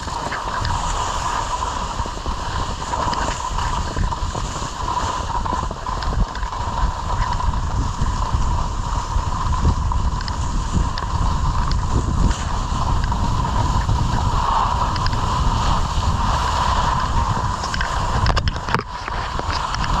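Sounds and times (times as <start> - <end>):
skis sliding on snow: 0.0 - 20.0
wind rushing over microphone: 0.0 - 20.0.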